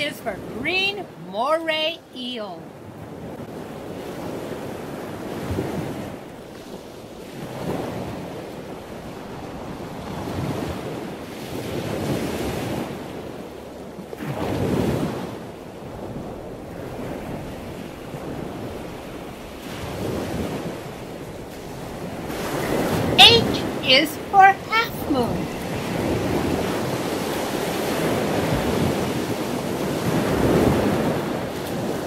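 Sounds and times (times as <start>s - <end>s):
ocean waves washing in: 0.0s - 32.0s.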